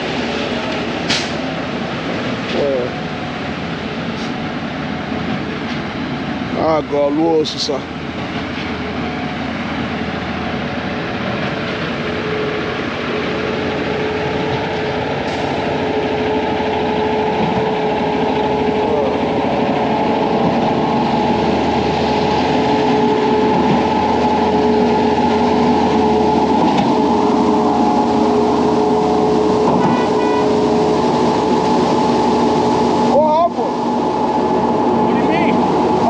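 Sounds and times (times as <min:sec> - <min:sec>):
heavy diesel engines droning: 0:00.0 - 0:36.0.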